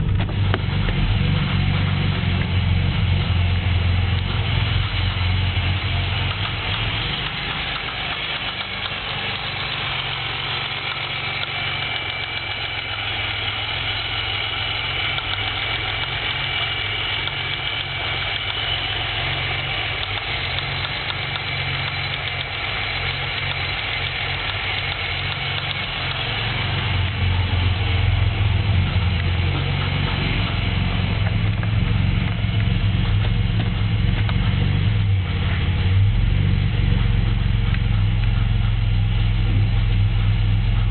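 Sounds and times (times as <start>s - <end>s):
car engine running: 0.0s - 40.9s
engine bearing knock: 5.1s - 40.9s.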